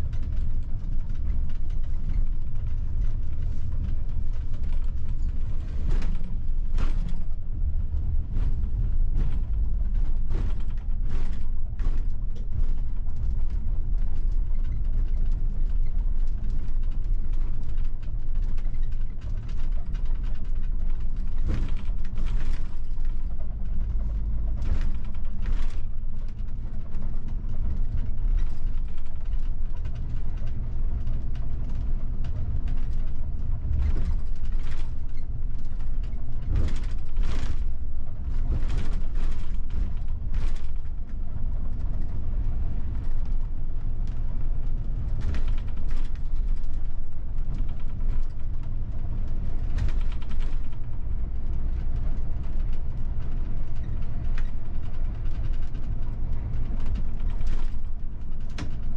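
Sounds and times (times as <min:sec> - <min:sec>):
bus body rattling and creaking: 0:00.0 - 0:58.9
bus engine and road rumble: 0:00.0 - 0:58.9.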